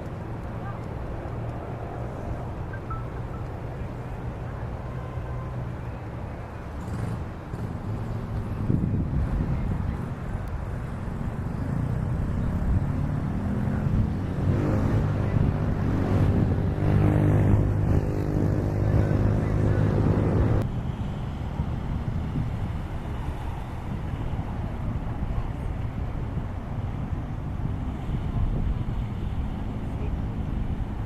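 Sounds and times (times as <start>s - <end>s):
wind on microphone: 3.6s - 31.0s.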